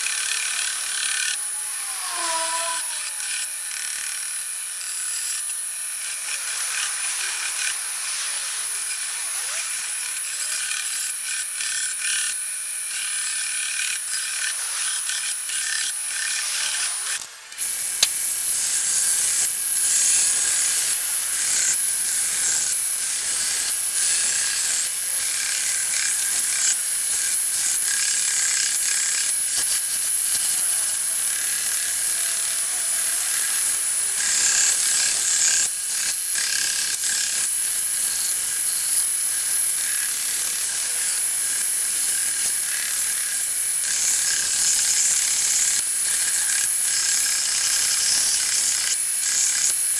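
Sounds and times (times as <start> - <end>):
sander whining: 0.0 - 49.9.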